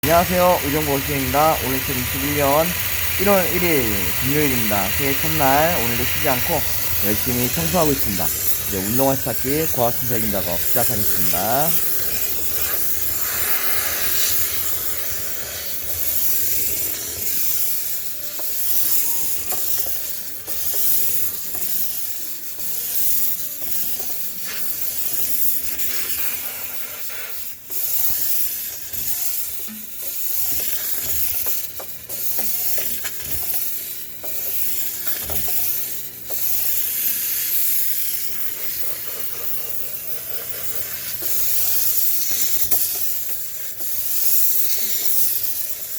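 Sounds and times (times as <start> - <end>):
high-pressure water jet hissing: 0.0 - 45.9.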